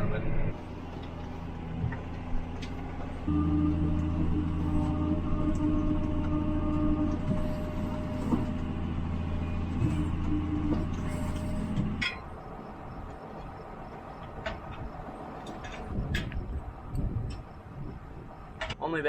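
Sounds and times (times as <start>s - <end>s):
tractor engine droning: 0.0s - 18.8s
rushing background noise: 0.0s - 19.0s.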